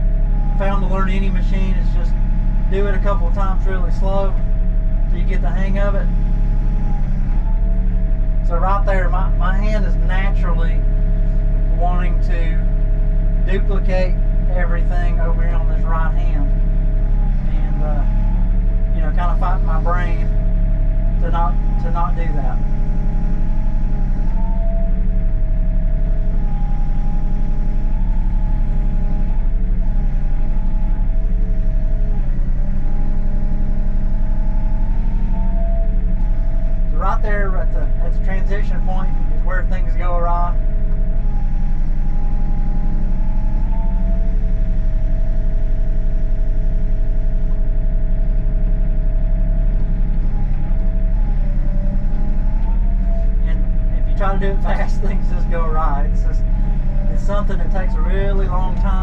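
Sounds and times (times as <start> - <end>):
excavator diesel engine running: 0.0 - 59.0
hydraulic whine: 0.0 - 59.0.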